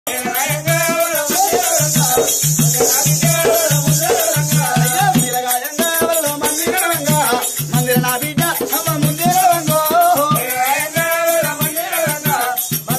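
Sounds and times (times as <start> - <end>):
ankle bells jingling: 0.1 - 12.9
drum beat: 0.1 - 12.9.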